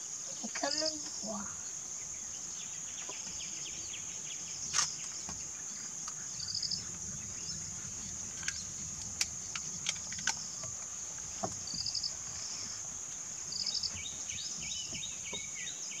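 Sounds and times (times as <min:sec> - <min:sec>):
bird chirp: 0:00.1 - 0:16.0.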